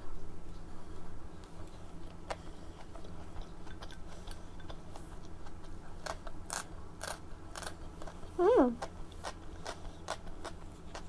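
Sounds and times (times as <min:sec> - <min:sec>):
wet chewing mouth clicks: 0:02.1 - 0:11.0.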